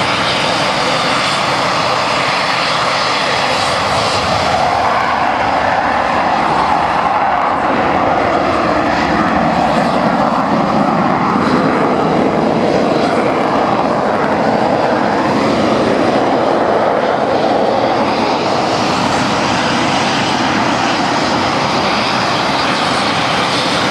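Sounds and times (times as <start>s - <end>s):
jet aircraft taxiing: 0.0s - 23.9s.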